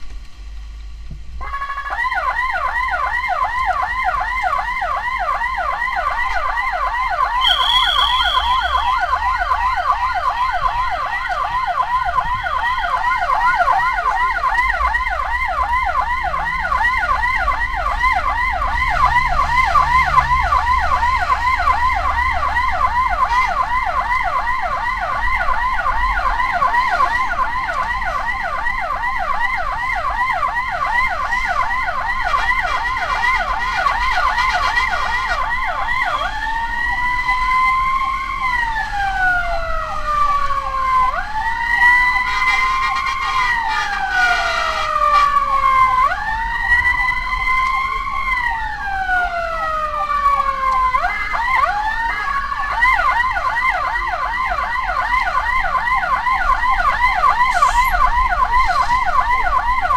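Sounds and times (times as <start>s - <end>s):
ambulance siren yelping and wailing: 1.4s - 59.9s.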